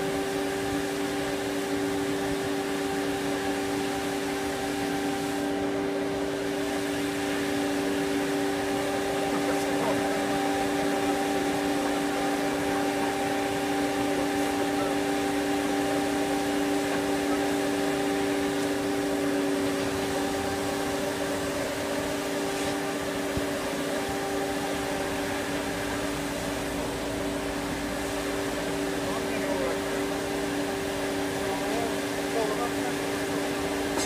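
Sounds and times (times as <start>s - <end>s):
band saw humming and whirring: 0.0s - 34.0s.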